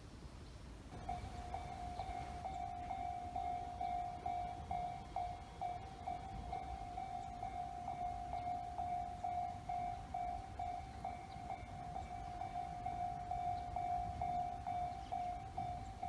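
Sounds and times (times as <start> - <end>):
level crossing warning bell: 0.9 - 16.0.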